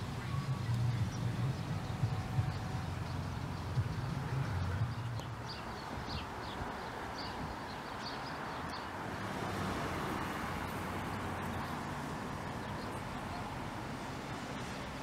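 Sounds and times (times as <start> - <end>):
car road noise passing: 0.0 - 15.0.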